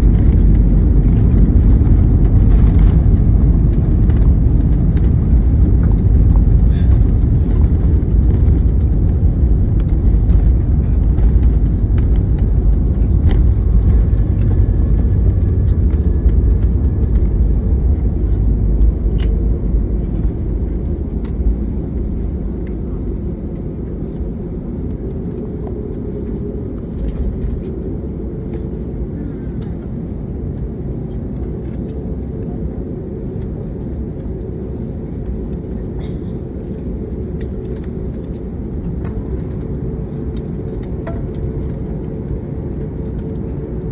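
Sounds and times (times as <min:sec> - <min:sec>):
aircraft cabin low rumble: 0:00.0 - 0:43.9.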